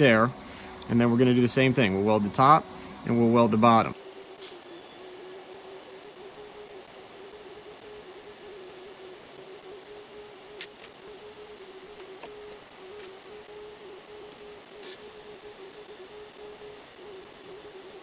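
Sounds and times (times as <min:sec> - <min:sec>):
welder humming: 0:00.0 - 0:18.0.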